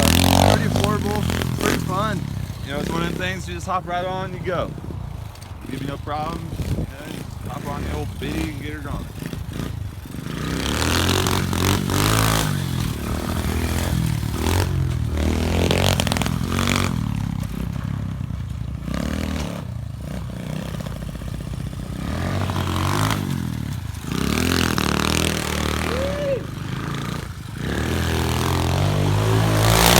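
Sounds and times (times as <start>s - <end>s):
motorbike engine revving: 0.0s - 29.9s.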